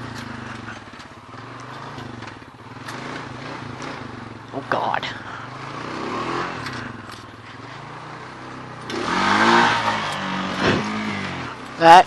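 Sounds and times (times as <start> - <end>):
atv engine revving: 0.0 - 12.0.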